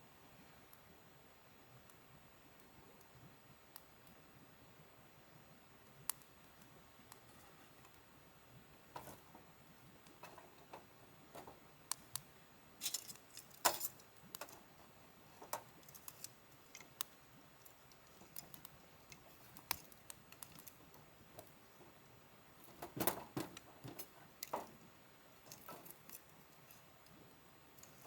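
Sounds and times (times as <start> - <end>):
campfire crackling: 0.1 - 28.0.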